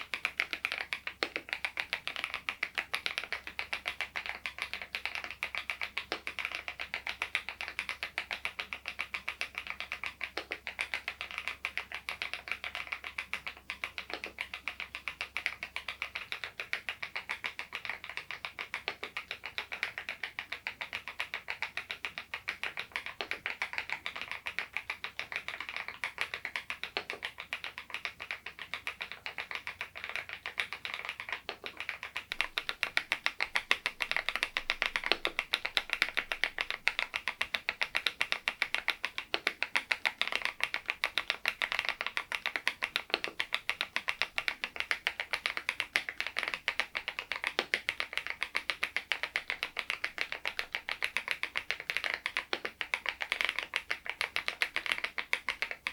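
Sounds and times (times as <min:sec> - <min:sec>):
fast mechanical keyboard typing: 0:00.0 - 0:55.9.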